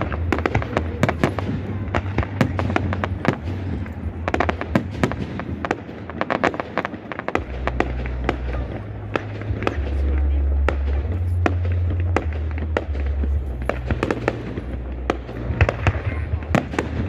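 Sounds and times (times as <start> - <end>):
fireworks bangs: 0.0 - 17.0
fireworks crackling: 0.0 - 17.0
rumbling booms: 0.0 - 17.0.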